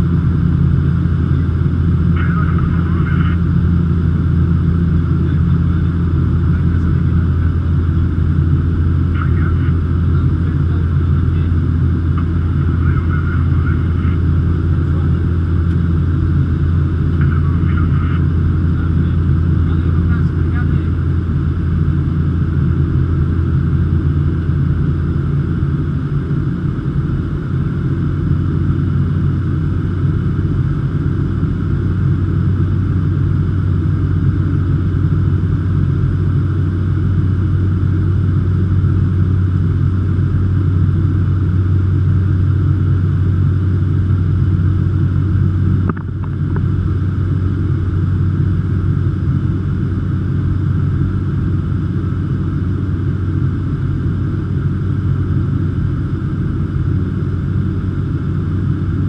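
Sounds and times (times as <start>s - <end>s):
turboprop engine droning: 0.0s - 59.0s.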